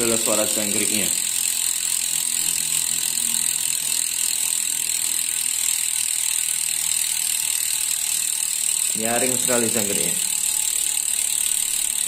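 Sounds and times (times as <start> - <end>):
bike freehub ratchet buzz: 0.0 - 12.0.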